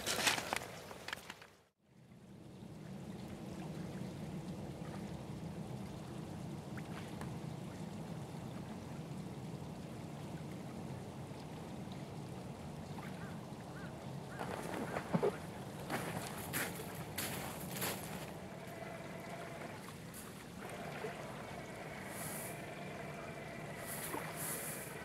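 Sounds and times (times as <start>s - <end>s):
stream water running: 1.8s - 25.0s.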